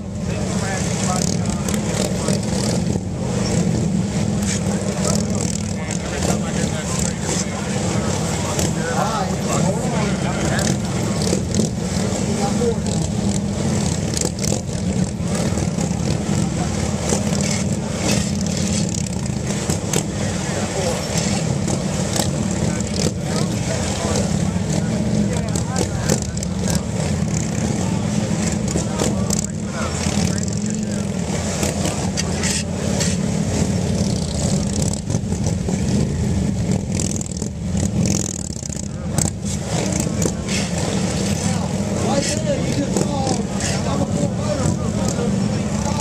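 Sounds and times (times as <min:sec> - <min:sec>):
motorcycle engines revving: 0:00.0 - 0:46.0.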